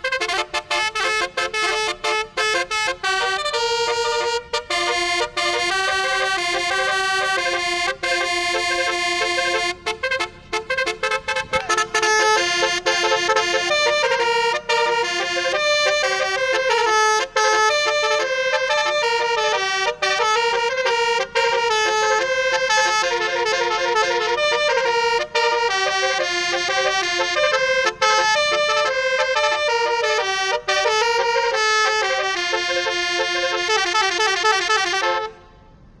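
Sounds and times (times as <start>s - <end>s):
musical horn playing a melody: 0.0s - 35.8s.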